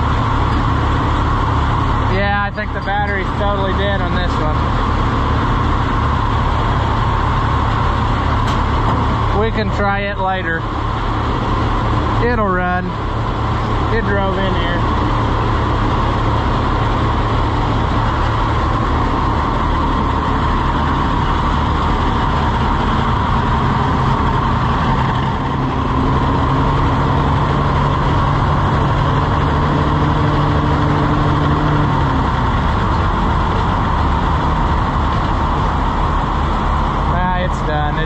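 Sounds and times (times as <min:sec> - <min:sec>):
steady hum: 0:00.0 - 0:38.0
tractor engines idling: 0:00.0 - 0:38.0.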